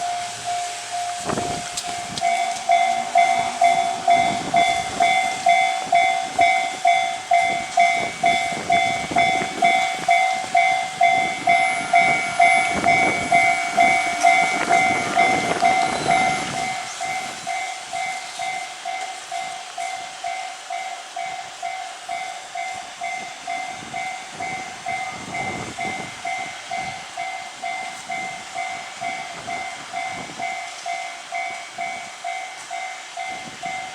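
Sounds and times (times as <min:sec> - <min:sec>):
level crossing bell ringing: 0:00.0 - 0:33.9
passing train rumbling: 0:00.0 - 0:33.9.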